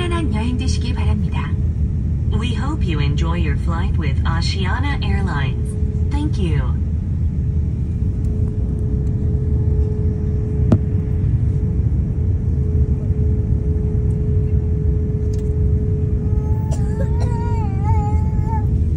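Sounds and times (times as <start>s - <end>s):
aircraft cabin rumble: 0.0s - 18.9s.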